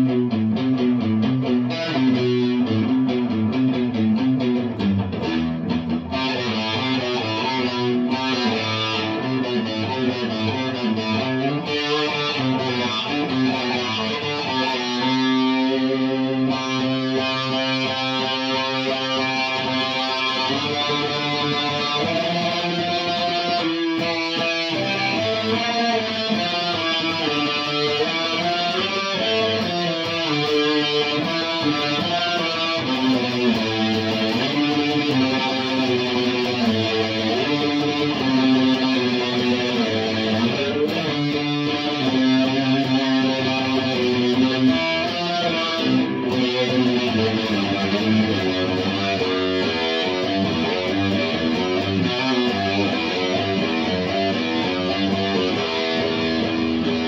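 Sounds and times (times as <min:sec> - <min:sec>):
electric guitar sliding notes: 0:00.0 - 0:57.0.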